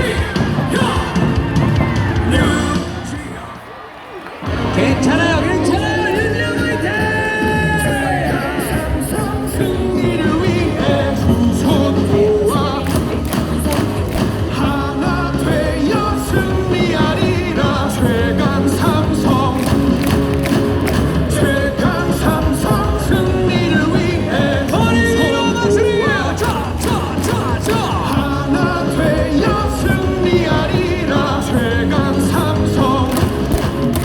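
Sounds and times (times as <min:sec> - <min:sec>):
music with singing over loudspeakers: 0:00.0 - 0:34.0.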